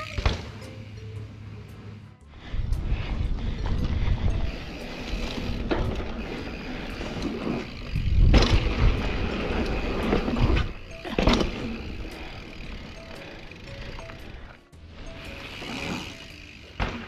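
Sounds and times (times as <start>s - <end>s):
bike riding rumble: 0.0s - 17.0s.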